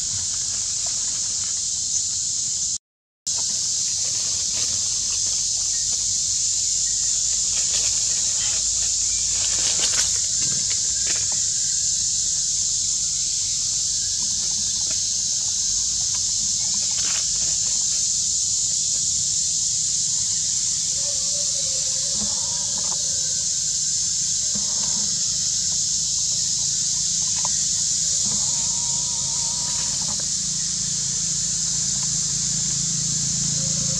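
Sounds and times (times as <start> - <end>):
insect chorus drone: 0.0 - 33.9.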